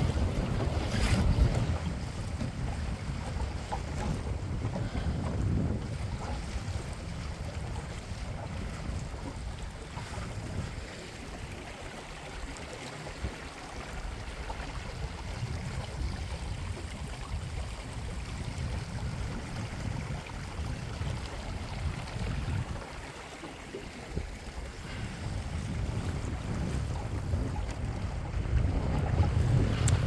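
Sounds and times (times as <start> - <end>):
water splashing along boat hull: 0.0 - 30.0
wind on microphone: 0.0 - 30.0.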